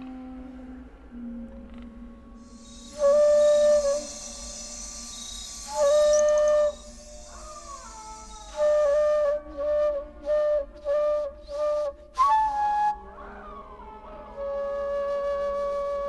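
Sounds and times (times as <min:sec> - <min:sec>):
slow solo melody: 0:00.0 - 0:16.0.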